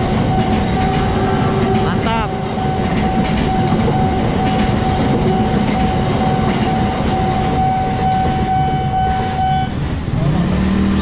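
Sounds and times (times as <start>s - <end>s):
crossing warning alarm tone: 0.0s - 9.9s
train wheels clattering on rails: 0.0s - 10.1s
higher alarm tone: 0.3s - 9.8s.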